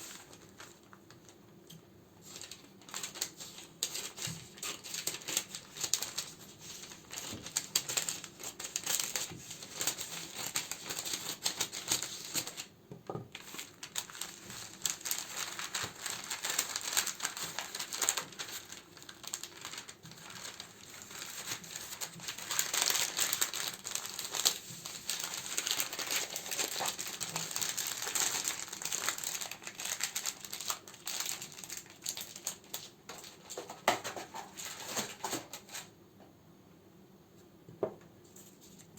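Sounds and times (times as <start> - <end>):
plastic and paper crinkling: 0.0 - 35.9, 38.2 - 38.9.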